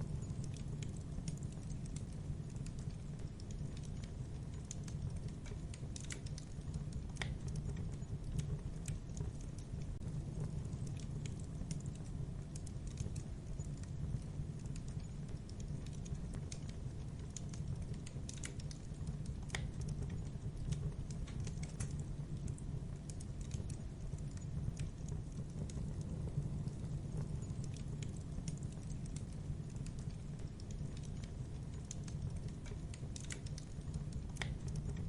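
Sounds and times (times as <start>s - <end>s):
fire crackling and roaring: 0.0s - 35.0s
fire snaps and pops: 0.0s - 35.0s.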